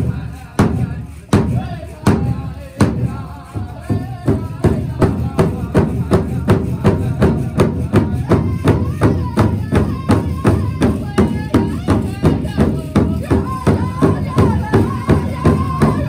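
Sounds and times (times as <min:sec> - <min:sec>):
drum group singing: 0:00.0 - 0:16.0
large hand drum beats: 0:00.0 - 0:16.0.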